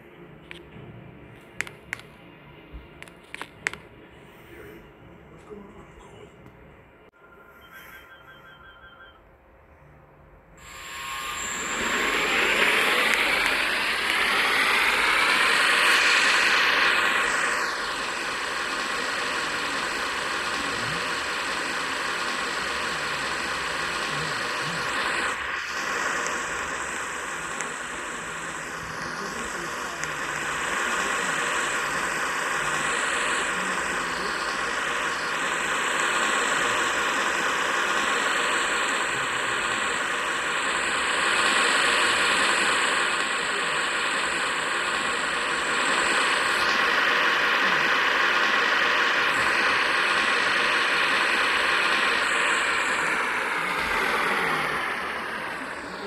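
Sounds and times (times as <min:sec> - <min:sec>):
wall fan motor hum: 0:00.0 - 0:56.0.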